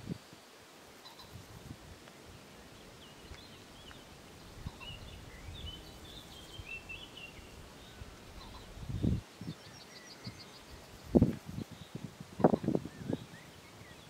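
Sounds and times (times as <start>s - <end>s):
outdoor hiss: 0.0s - 14.0s
songbirds chirping: 0.0s - 14.0s.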